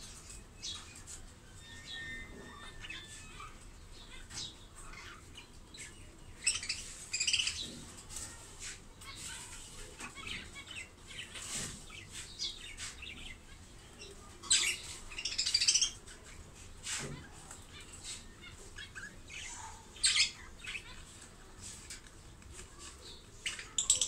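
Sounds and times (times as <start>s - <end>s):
budgerigars chattering and chirping: 1.6s - 8.0s, 9.0s - 21.3s, 23.0s - 24.0s.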